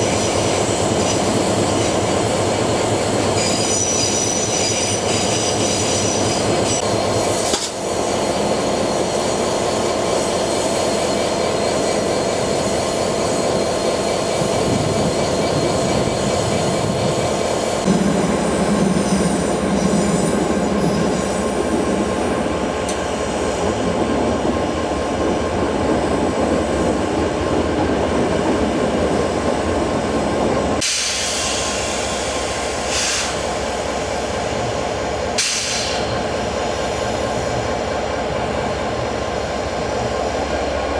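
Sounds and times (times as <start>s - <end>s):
train rolling noise: 0.0s - 40.9s
train wheels squealing on rails: 0.0s - 40.9s.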